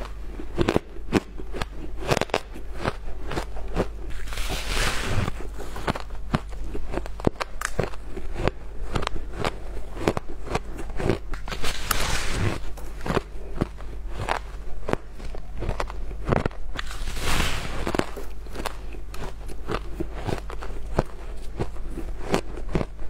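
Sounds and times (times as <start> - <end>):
ice crunching while chewed: 0.0 - 23.0.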